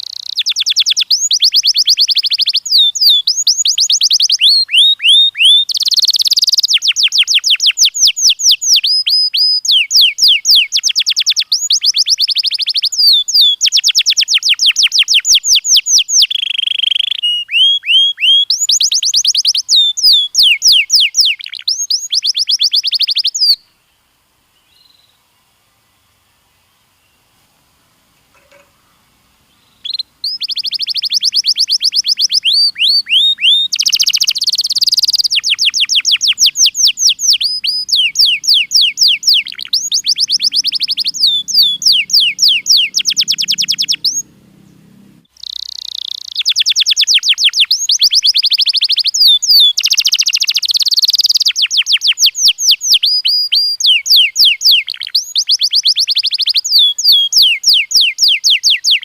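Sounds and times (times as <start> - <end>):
canary singing trills: 0.0 - 23.8, 27.0 - 59.0.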